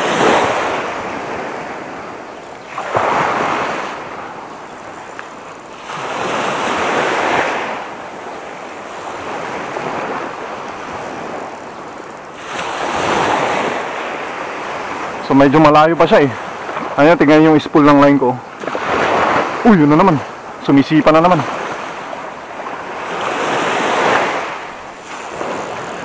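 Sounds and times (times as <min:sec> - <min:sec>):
small waves breaking on shore: 0:00.0 - 0:26.0.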